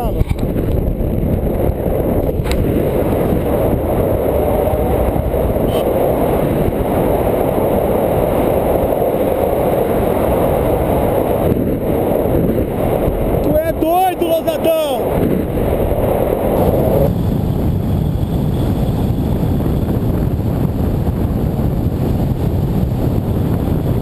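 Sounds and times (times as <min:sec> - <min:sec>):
airflow buffeting microphone: 0:00.0 - 0:24.0.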